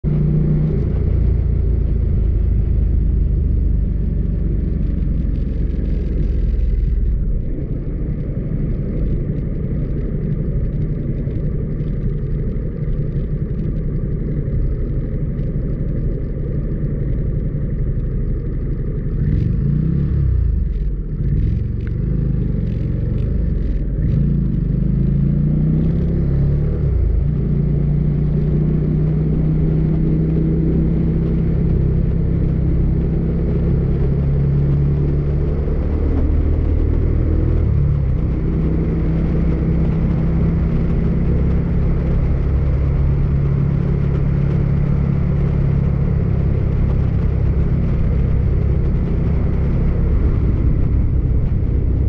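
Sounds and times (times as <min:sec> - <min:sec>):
motorcycle engine rumbling: 0:00.0 - 0:52.0.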